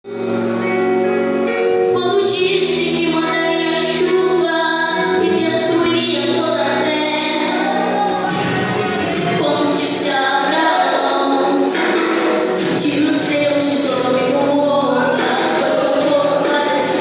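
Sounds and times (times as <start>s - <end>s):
instrumental accompaniment: 0.1s - 17.0s
girl singing praise song: 2.0s - 17.0s.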